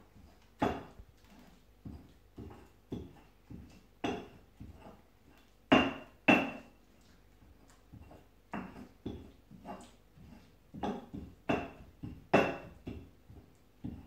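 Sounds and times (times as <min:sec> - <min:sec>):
stone pestle knocking and grinding: 0:00.2 - 0:06.7, 0:07.9 - 0:14.0.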